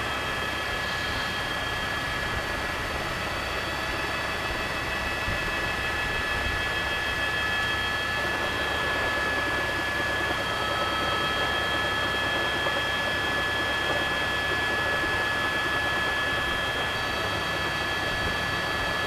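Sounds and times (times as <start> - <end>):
helicopter engine: 0.0 - 19.0.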